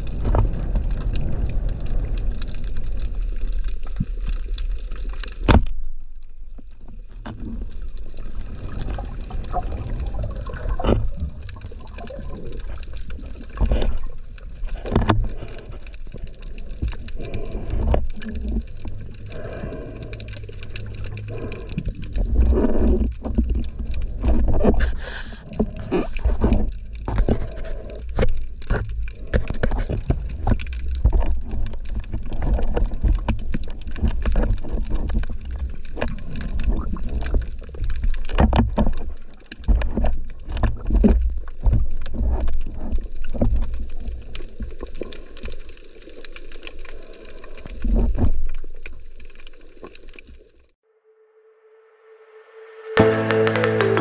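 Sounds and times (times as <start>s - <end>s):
underwater water rushing: 0.0s - 50.7s.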